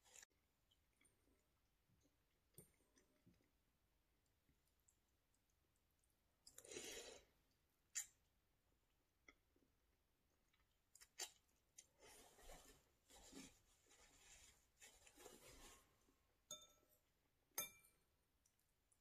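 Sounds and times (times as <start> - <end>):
soft chewing: 0.0 - 16.4.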